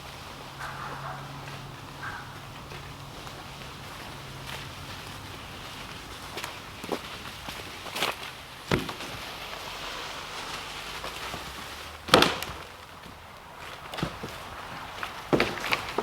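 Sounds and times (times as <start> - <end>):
dead wood cracking: 0.0 - 9.6, 10.4 - 16.0
rustling: 0.0 - 16.0.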